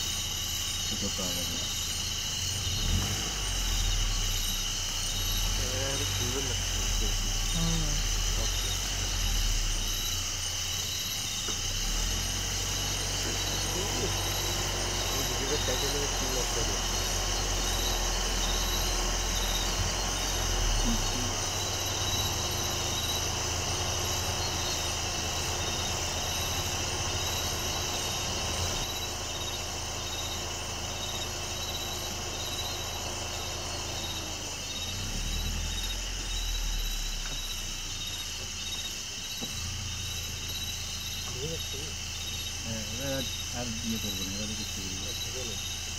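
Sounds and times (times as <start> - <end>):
crickets and insects chirping: 0.0 - 45.9
vehicle engine idling: 0.0 - 45.9.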